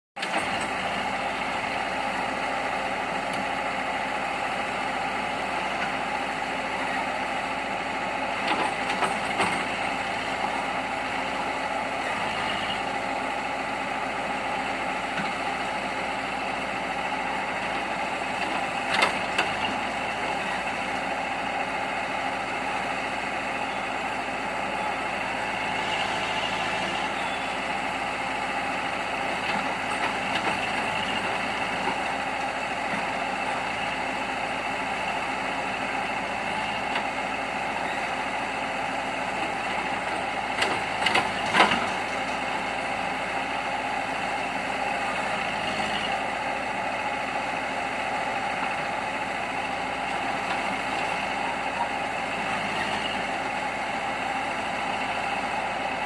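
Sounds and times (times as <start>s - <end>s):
diesel engines idling: 0.2s - 56.0s.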